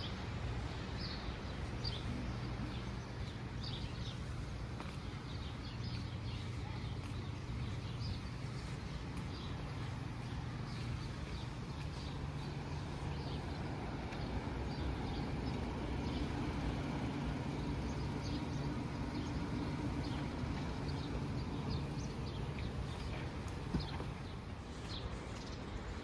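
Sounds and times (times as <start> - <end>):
low mechanical hum: 0.0 - 26.0
small birds chirping: 0.0 - 26.0.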